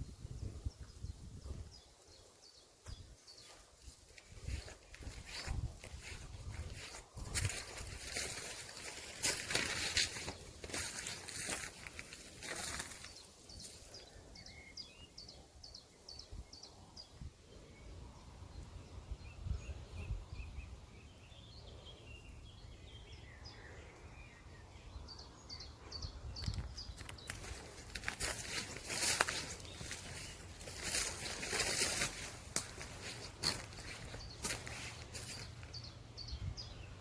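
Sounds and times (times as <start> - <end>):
small birds singing: 0.0 - 37.0.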